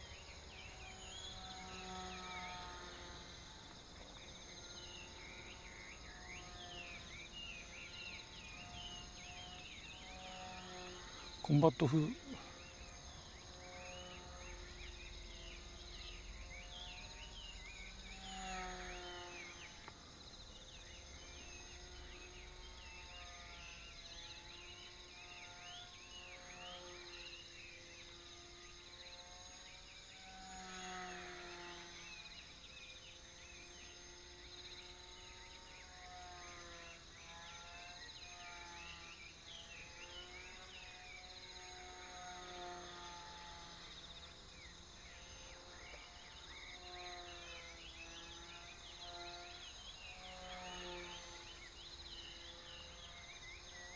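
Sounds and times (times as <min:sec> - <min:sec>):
insect calls: 0:00.0 - 0:25.1, 0:26.3 - 0:53.9.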